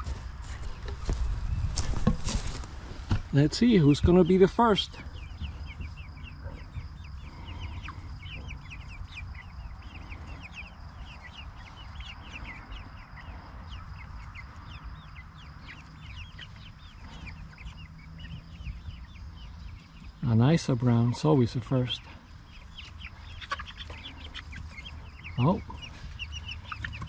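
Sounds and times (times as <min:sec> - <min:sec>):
young chickens peeping: 0:00.0 - 0:27.0.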